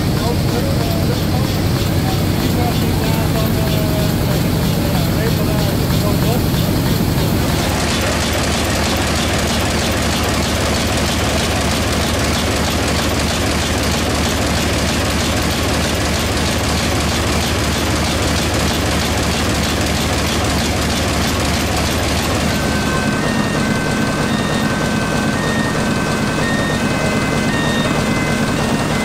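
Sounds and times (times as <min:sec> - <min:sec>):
diesel engine rumbling: 0:00.0 - 0:29.0.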